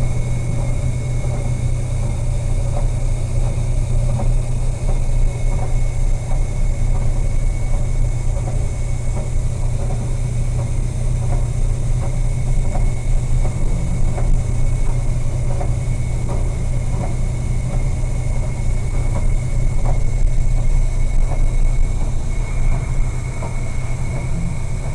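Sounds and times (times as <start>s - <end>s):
low engine drone: 0.0s - 24.9s.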